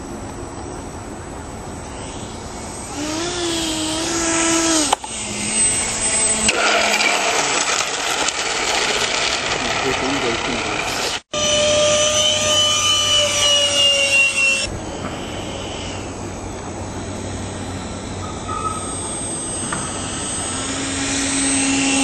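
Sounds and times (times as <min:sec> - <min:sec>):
electric fan high whine: 0:00.0 - 0:22.0
low steady hum: 0:00.0 - 0:22.0.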